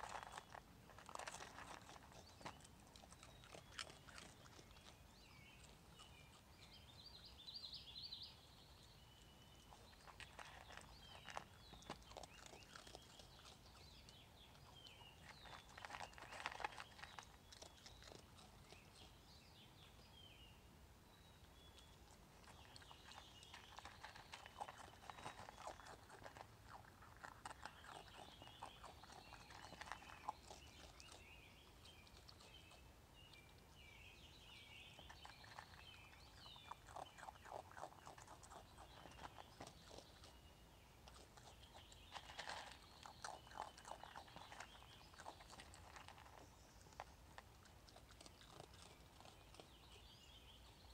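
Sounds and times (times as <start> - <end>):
raccoon crunching food: 0.0 - 7.6, 8.4 - 20.3, 21.2 - 50.9.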